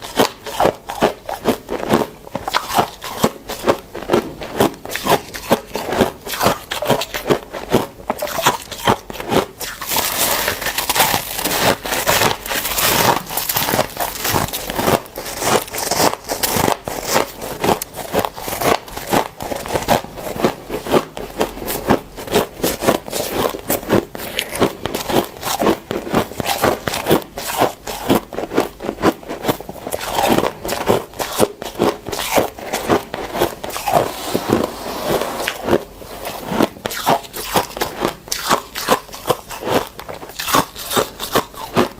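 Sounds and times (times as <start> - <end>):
frost crunching and squeaking: 0.0 - 41.9.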